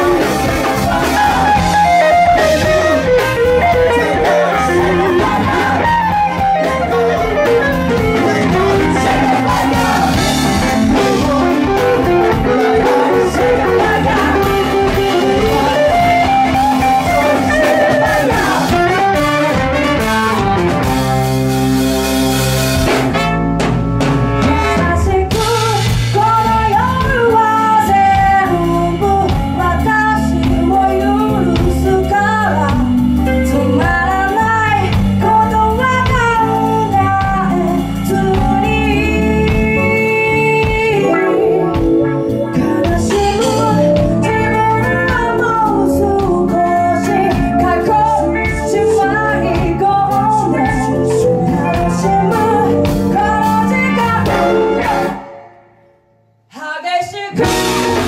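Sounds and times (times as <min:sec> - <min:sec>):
woman singing: 0:00.0 - 0:19.6, 0:24.4 - 0:41.9, 0:42.5 - 0:55.2, 0:56.5 - 0:58.0
drums and bass: 0:00.0 - 0:55.3, 0:57.1 - 0:58.0
electric guitar melody: 0:00.0 - 0:56.0, 0:57.3 - 0:58.0.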